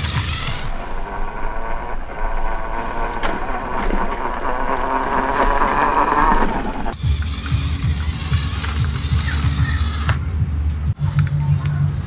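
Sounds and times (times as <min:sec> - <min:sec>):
small electric motors whining: 0:00.0 - 0:10.3.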